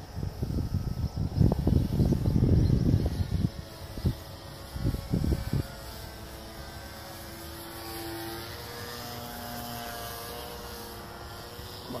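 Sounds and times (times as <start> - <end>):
model airplane motors droning: 0.0 - 12.0.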